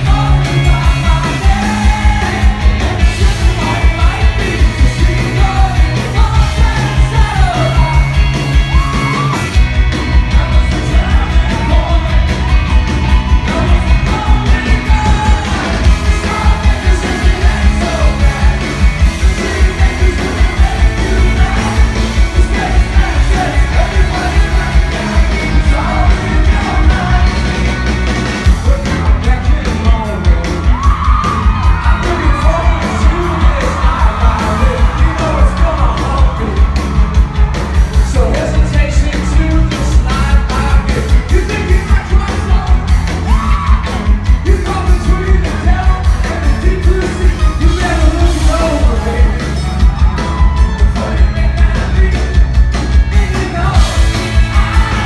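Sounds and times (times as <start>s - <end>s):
crowd yelling and singing along: 0.0s - 55.0s
lead vocals singing: 0.0s - 55.0s
live rock band playing: 0.0s - 55.0s.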